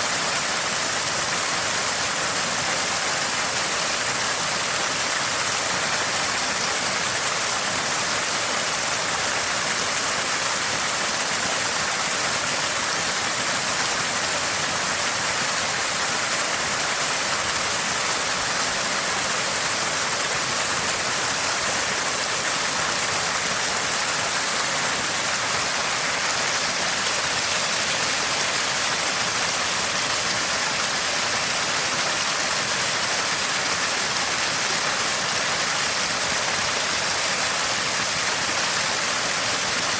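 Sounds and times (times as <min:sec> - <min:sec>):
spring water gurgling: 0:00.0 - 0:39.9.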